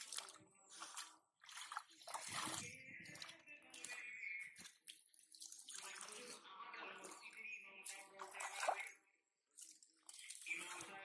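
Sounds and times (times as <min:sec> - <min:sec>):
hands splashing in muddy water: 0:00.0 - 0:11.0.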